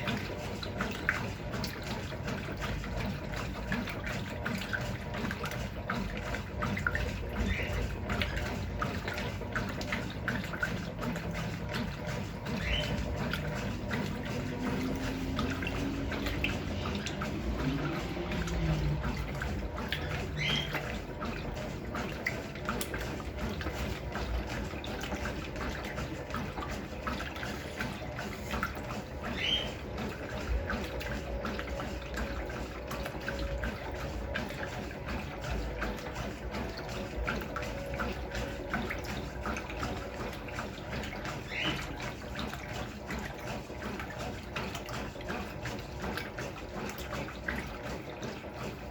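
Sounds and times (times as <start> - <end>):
washing machine water splashing: 0.0 - 48.9.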